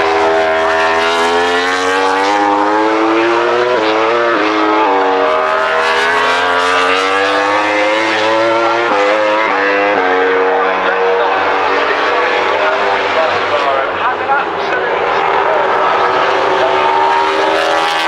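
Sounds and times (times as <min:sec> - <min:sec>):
racing motorcycle engine revving: 0:00.0 - 0:18.0.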